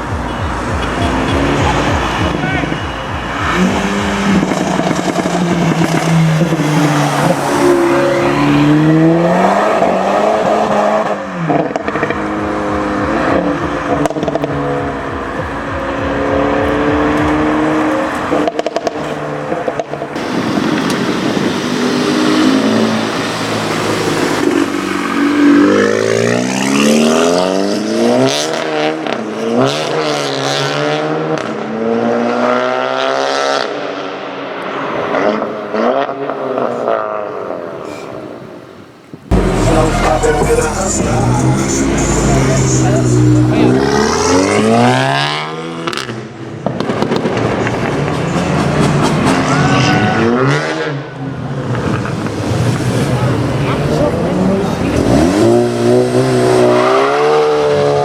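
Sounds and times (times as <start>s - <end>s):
car engine revving: 0.0s - 31.5s, 39.3s - 58.0s.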